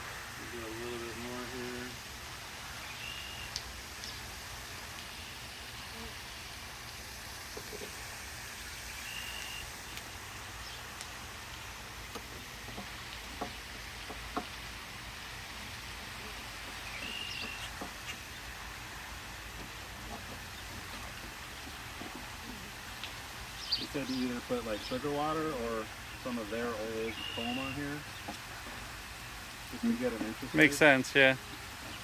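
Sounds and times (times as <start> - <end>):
outdoor hiss: 0.0 - 32.0.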